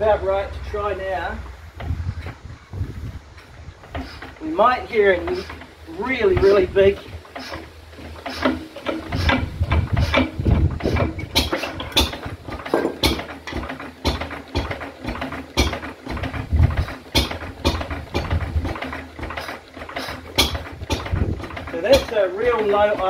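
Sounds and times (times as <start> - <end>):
stationary engine idling with knocks: 0.0 - 2.4, 3.0 - 23.0.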